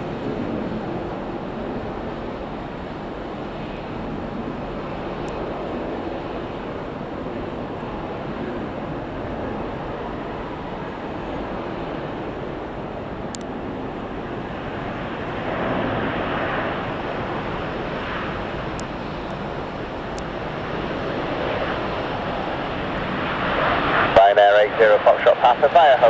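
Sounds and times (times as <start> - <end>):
gusty wind on microphone: 0.0 - 26.0.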